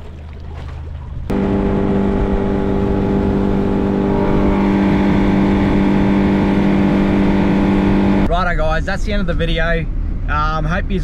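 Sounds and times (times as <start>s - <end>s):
engine humming steadily: 0.1s - 11.0s.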